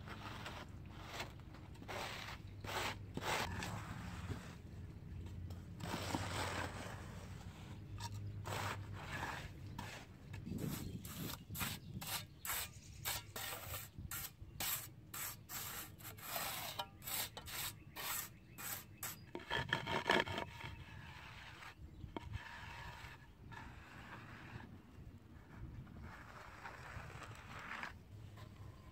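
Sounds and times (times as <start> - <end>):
trowel scraping damp sand: 0.0 - 4.7, 5.8 - 24.8, 25.4 - 28.9.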